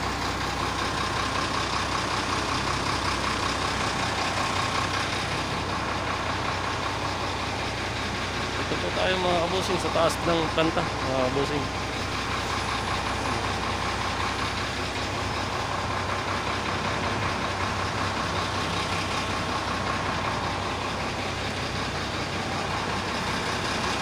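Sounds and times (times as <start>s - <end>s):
heavy machinery drone: 0.0s - 24.0s.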